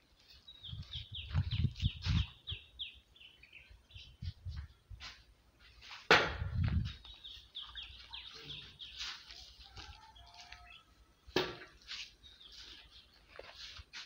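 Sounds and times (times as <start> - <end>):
small birds chirping: 0.0 - 5.0, 6.5 - 14.0.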